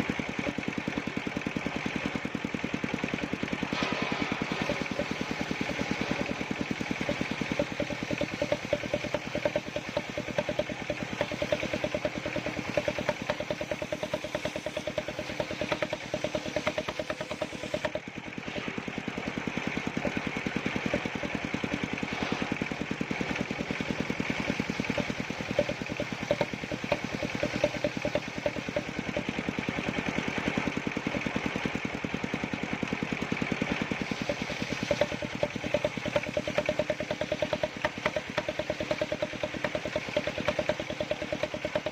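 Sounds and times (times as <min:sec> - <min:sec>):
wood-cutting machine engine running: 0:00.0 - 0:41.9.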